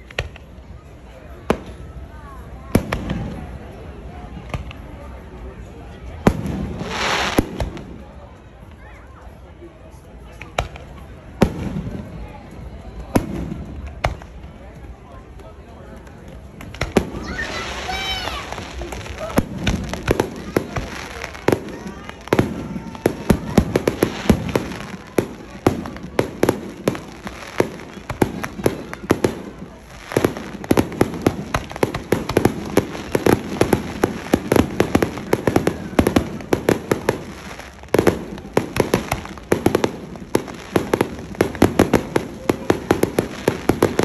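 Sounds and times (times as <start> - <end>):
fireworks bursting and crackling: 1.4 - 5.2, 6.0 - 8.7, 10.3 - 44.0.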